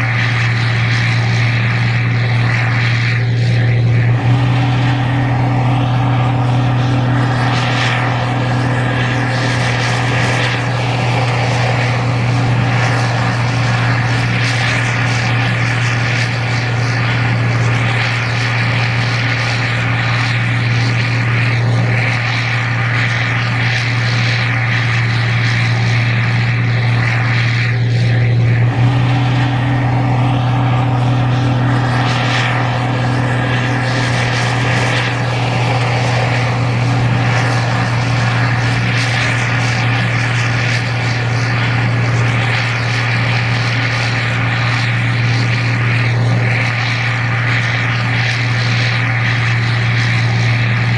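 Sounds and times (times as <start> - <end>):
combine harvester diesel drone: 0.0 - 50.9.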